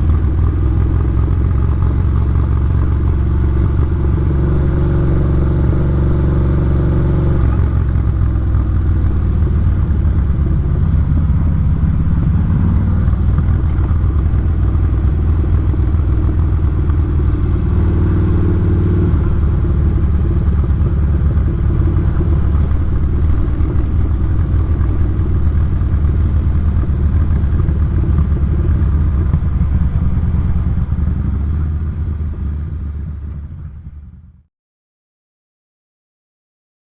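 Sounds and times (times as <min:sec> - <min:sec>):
motorcycle engine running: 0:00.0 - 0:34.5.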